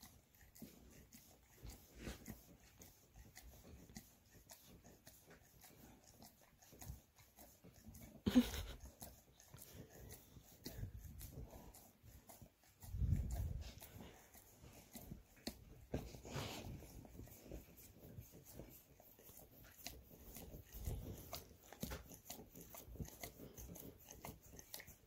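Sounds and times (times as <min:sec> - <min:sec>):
dog licking: 0:00.0 - 0:25.0.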